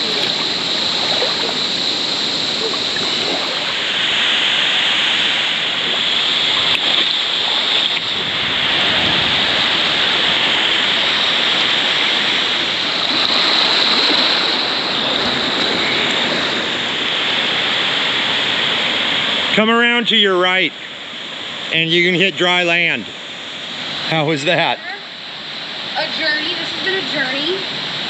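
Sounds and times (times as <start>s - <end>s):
river water rushing over rocks: 0.0s - 19.8s, 23.1s - 28.0s.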